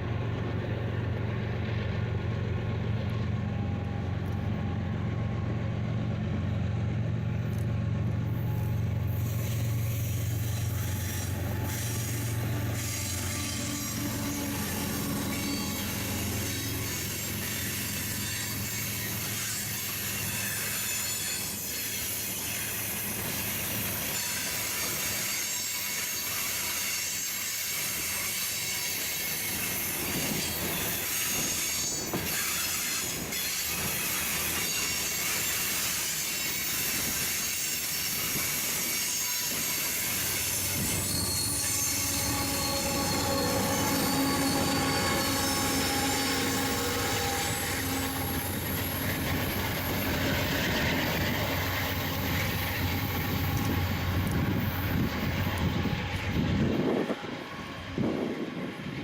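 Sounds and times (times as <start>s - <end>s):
train rumble: 0.0s - 59.0s
train wheels squealing: 7.5s - 59.0s.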